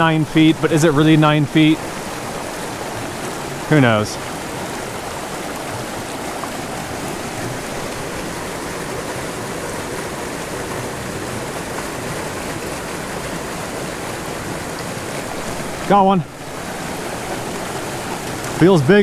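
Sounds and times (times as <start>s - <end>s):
stream rushing over stones: 0.0s - 19.0s.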